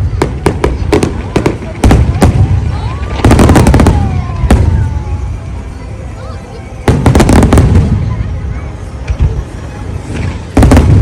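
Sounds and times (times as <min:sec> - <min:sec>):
fireworks bangs: 0:00.0 - 0:05.7, 0:06.8 - 0:11.0.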